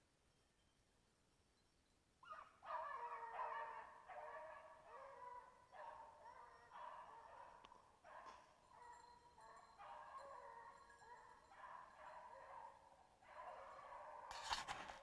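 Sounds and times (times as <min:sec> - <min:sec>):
hounds baying: 0:02.2 - 0:14.9.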